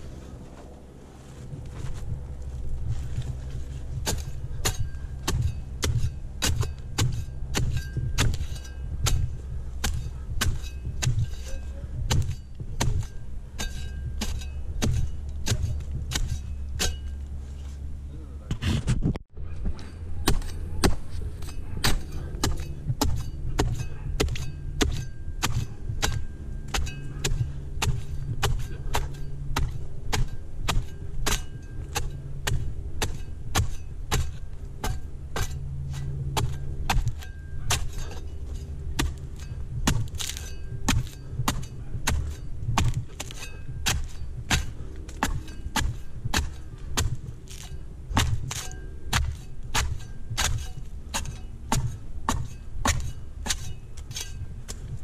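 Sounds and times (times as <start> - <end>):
steady low hum: 0.0 - 55.0
blade chopping palm fronds: 1.6 - 17.3, 19.7 - 55.0.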